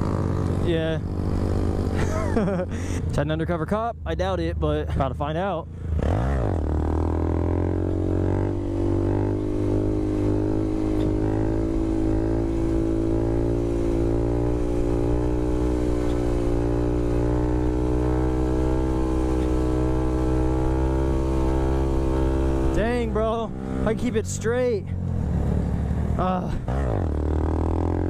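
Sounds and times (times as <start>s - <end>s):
motorcycle engine at high revs: 0.0s - 3.0s, 5.7s - 28.0s.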